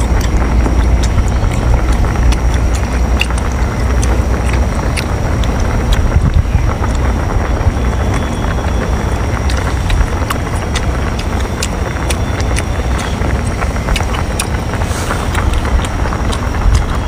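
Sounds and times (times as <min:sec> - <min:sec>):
chewing close to mic: 0:00.0 - 0:17.0
wind buffeting microphone: 0:00.0 - 0:17.0.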